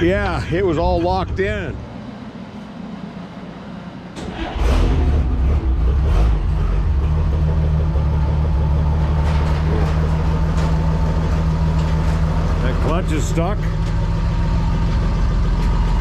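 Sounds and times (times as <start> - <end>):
truck engine starting and idling: 0.0 - 16.0.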